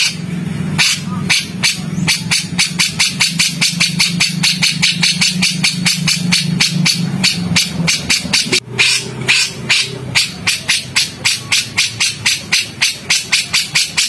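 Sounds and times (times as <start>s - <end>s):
low steady hum: 0.0s - 14.0s
songbird harsh chattering call: 0.8s - 14.0s.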